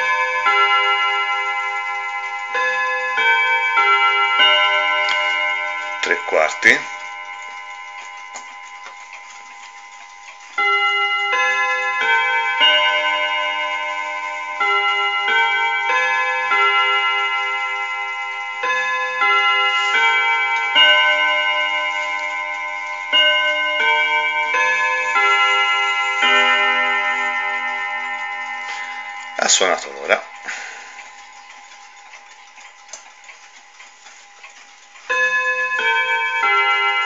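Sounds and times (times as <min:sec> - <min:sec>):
clock chime melody: 0:00.0 - 0:37.0
clock ticking: 0:00.0 - 0:37.0.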